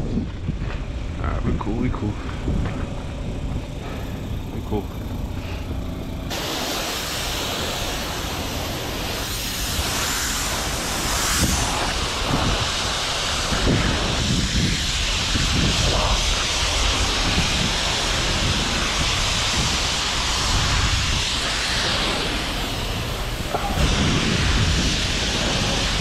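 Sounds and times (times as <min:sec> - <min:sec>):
pressure washer spraying car: 0:03.5 - 0:26.0.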